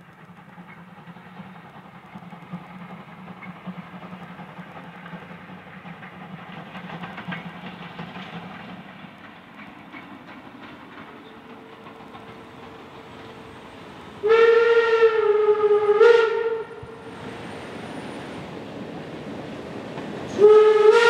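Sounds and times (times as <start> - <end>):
train wheels clicking over rail joints: 0.0 - 21.0.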